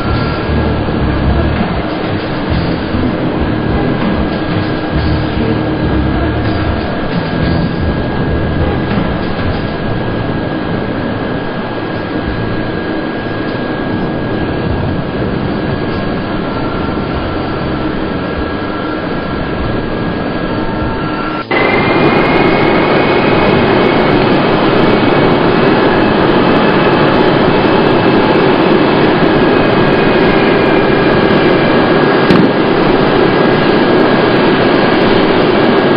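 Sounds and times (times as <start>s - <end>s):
high-pitched jet whine: 0.0s - 35.9s
jet engines running: 0.0s - 35.9s.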